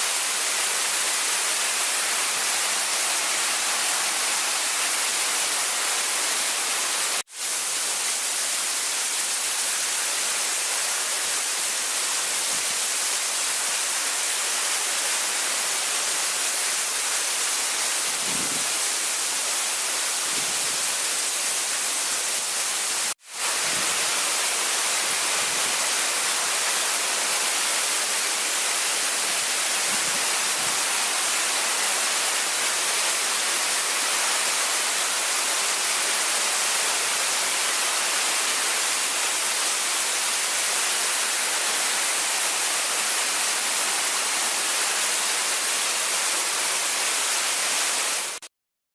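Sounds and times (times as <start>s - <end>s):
waterfall rushing: 0.0s - 48.4s.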